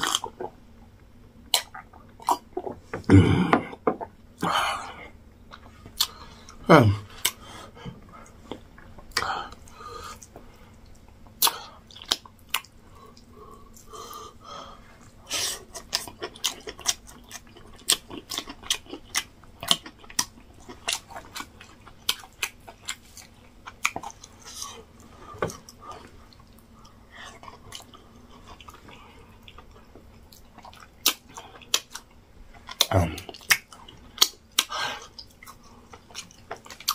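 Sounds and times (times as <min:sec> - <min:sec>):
man chewing with wet smacks: 0:00.0 - 0:14.4, 0:15.0 - 0:36.9.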